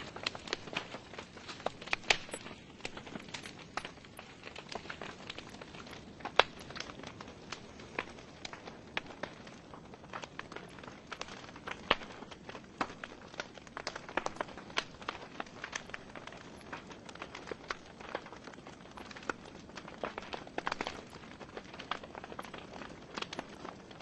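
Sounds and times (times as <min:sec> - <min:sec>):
logs crackling and popping: 0:00.0 - 0:24.0.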